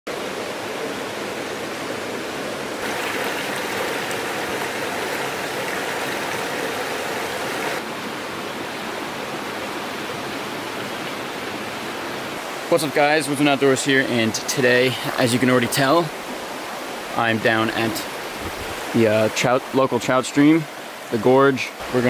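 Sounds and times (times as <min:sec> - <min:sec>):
stream water rushing: 0:00.1 - 0:22.0.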